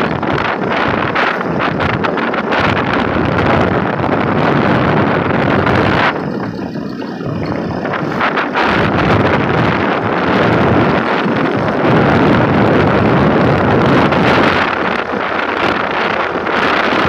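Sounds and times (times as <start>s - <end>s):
vehicle and road noise: 0.0s - 17.0s
wind buffeting microphone: 0.0s - 17.0s.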